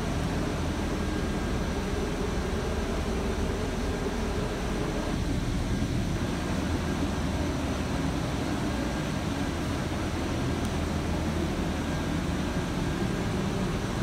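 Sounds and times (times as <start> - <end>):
machinery rumble with hiss: 0.0 - 14.0.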